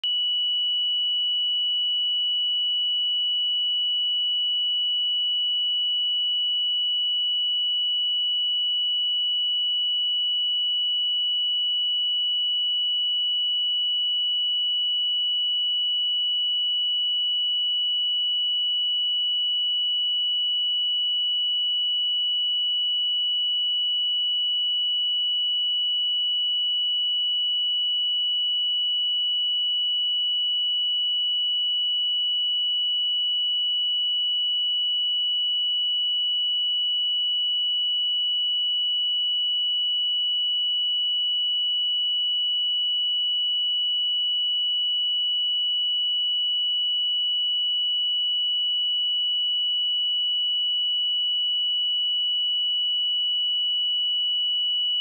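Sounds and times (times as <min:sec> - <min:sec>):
sine wave test tone: 0:00.0 - 0:55.0.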